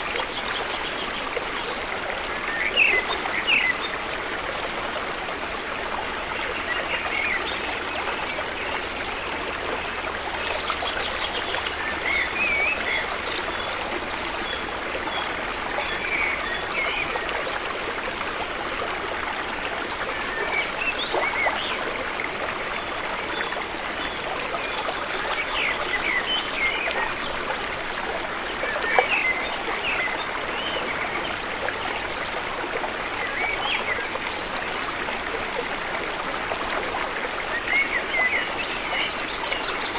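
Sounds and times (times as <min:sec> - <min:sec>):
river water flowing: 0:00.0 - 0:39.9
water gurgling and trickling: 0:00.0 - 0:39.9.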